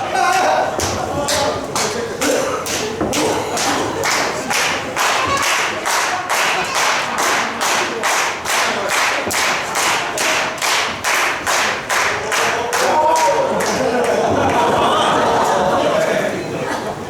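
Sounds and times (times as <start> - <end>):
audience clapping in unison: 0.0 - 15.7.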